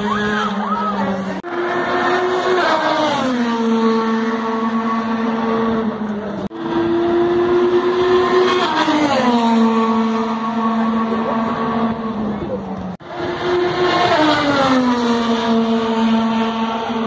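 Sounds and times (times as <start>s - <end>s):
race car passing at speed: 0.0s - 17.0s.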